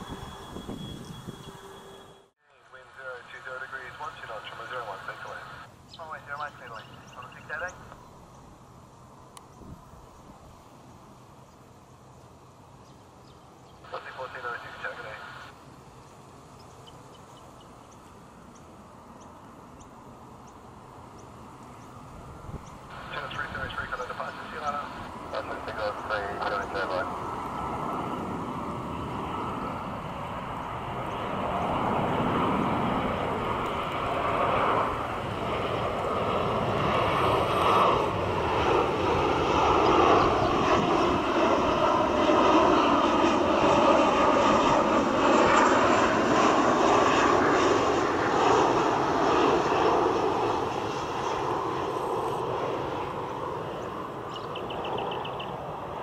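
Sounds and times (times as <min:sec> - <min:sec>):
jet engines roaring: 0:00.0 - 0:10.0, 0:13.8 - 0:17.1, 0:17.7 - 0:56.0.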